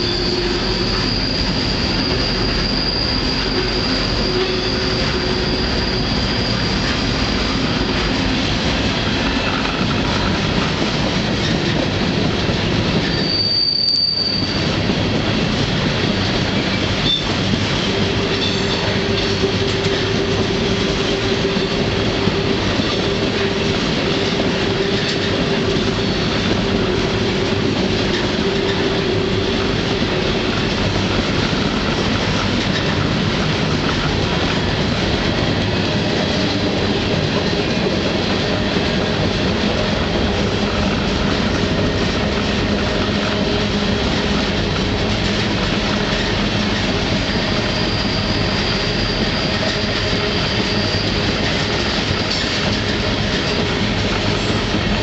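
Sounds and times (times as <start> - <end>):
low-pitched wheel squeal: 0.0 - 8.3, 13.0 - 14.8, 16.5 - 55.0
high wheel squeal: 0.0 - 8.4, 12.9 - 14.9, 16.4 - 55.0
train wheels rattling on rails: 0.0 - 55.0.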